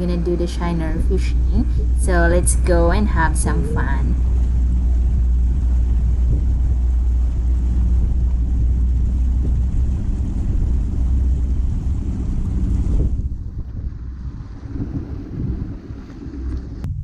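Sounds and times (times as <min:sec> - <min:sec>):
outboard motor running: 0:00.0 - 0:17.0
wind noise on microphone: 0:00.0 - 0:17.0.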